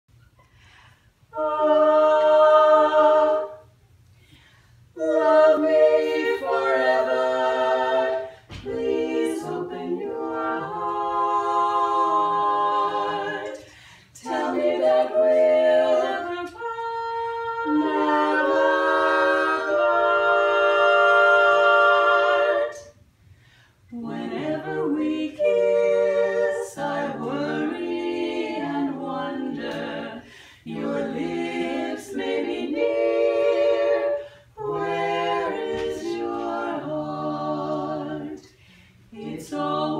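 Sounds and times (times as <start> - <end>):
women's vocal quartet singing: 0.2 - 23.1, 23.7 - 39.9.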